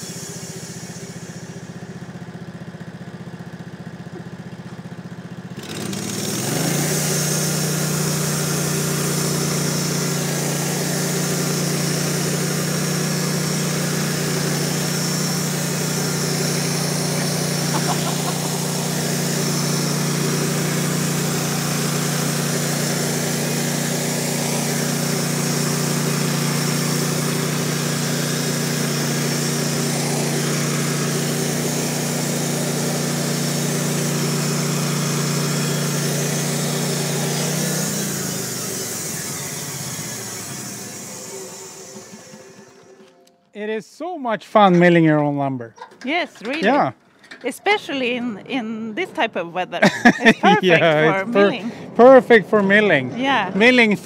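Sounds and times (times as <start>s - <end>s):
band saw cutting wood: 0.0s - 2.0s, 5.6s - 43.3s, 46.0s - 54.0s
sawmill engine: 0.0s - 54.0s.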